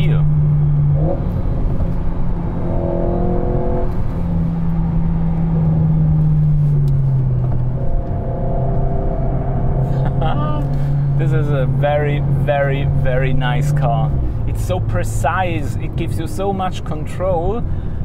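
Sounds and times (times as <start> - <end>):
car engine running: 0.0 - 18.0
road noise: 0.0 - 18.0.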